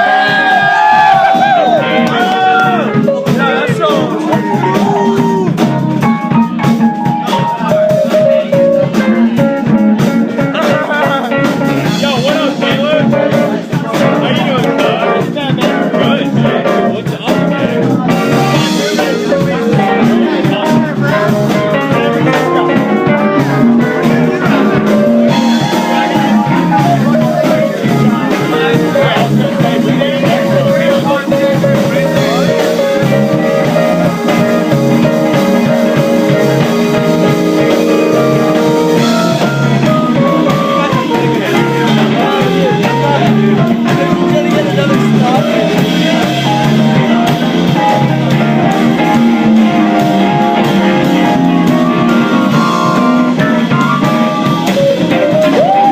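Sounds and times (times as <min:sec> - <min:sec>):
live band playing: 0:00.0 - 0:55.9
person singing: 0:01.5 - 0:09.8, 0:10.4 - 0:55.9.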